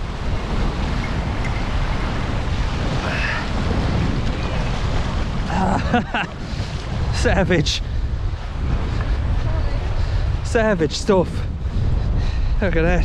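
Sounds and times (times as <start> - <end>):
small waves washing on shore: 0.0 - 13.0
strong wind buffeting microphone: 0.0 - 13.0.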